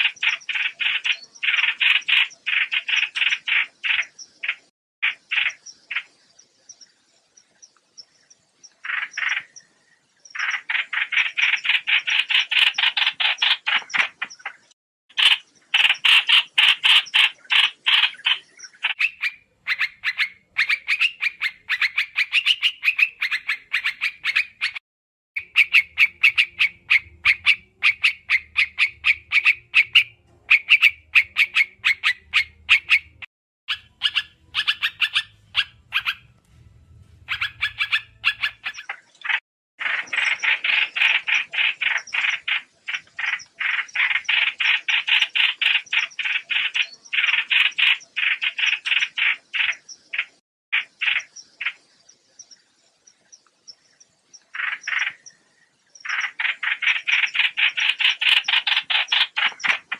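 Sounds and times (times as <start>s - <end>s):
bird rapid chattering call: 0.0s - 6.2s, 8.7s - 9.7s, 10.3s - 24.8s, 25.4s - 36.4s, 37.2s - 51.8s, 54.4s - 55.4s, 56.0s - 59.9s.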